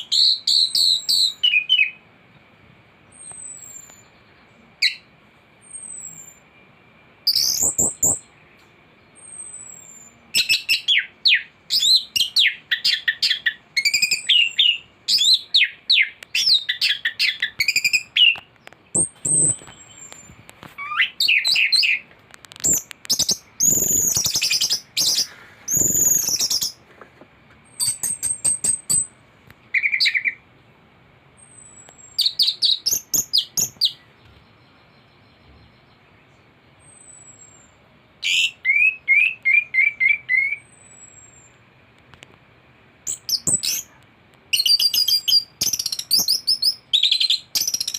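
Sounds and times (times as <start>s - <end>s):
thrush singing whistles and trills: 0.0s - 2.2s, 3.0s - 26.8s, 27.6s - 30.5s, 31.4s - 41.7s, 43.0s - 43.9s, 44.5s - 47.9s.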